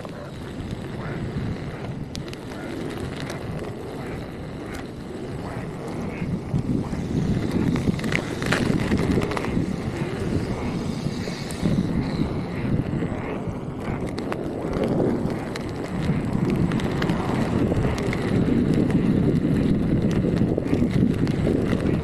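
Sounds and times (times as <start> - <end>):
electric unicycle rolling on wet pavement: 0.0 - 22.0
wind buffeting microphone: 0.0 - 22.0.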